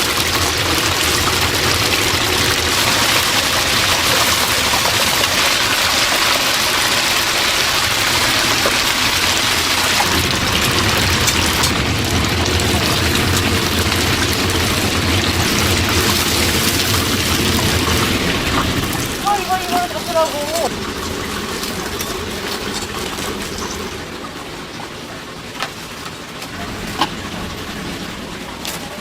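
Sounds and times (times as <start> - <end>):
chicken sizzling in hot oil: 0.0 - 24.4.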